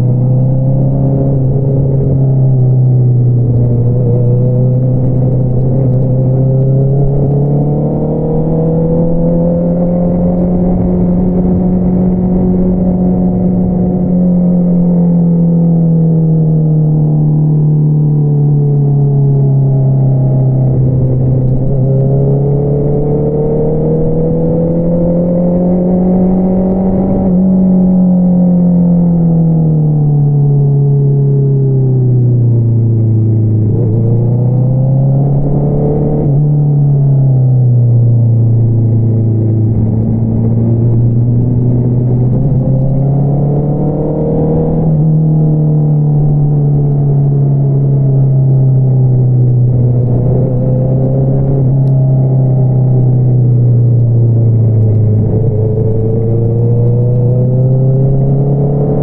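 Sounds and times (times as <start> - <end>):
motorcycle engine revving: 0.0 - 16.6, 18.8 - 28.2, 32.4 - 59.0.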